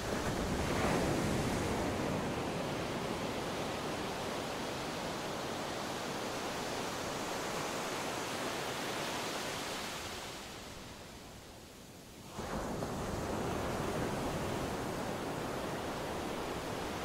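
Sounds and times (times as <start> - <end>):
surf on a beach: 0.0 - 17.0.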